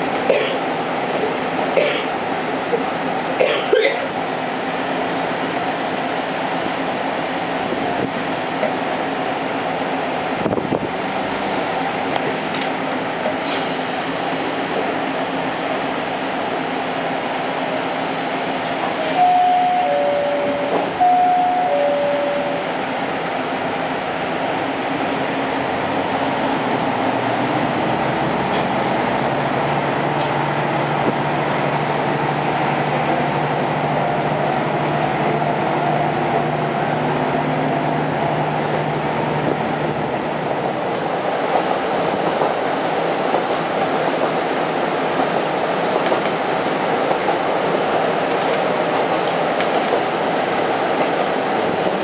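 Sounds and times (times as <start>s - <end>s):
train engine hum: 0.0s - 52.0s
wheel and rail noise: 4.2s - 52.0s.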